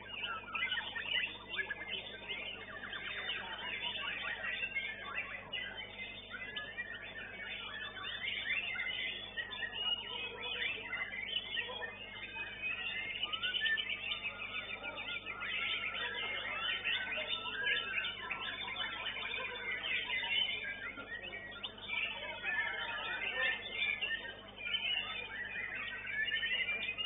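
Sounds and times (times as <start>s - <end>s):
songbird whistling and chirping: 0.0s - 27.0s.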